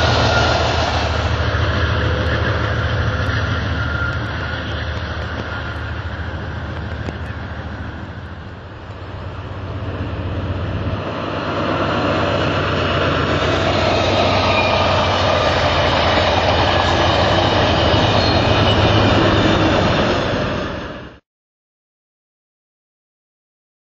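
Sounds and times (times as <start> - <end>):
train passing at speed: 0.0 - 21.2.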